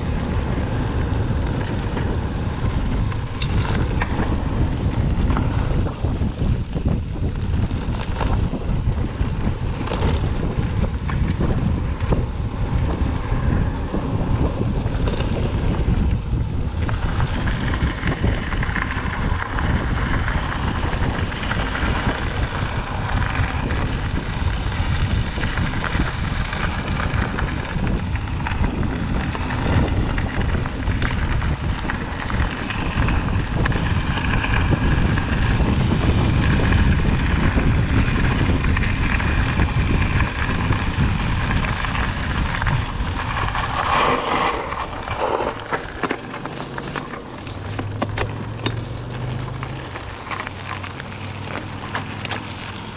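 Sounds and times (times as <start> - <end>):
bike rattling on trail: 0.0 - 52.9
wind buffeting microphone: 0.0 - 52.9.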